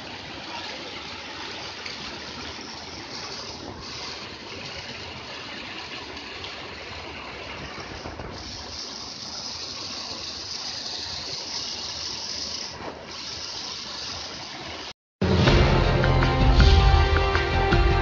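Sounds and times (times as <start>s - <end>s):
floodwater rushing down drain: 0.0s - 17.8s.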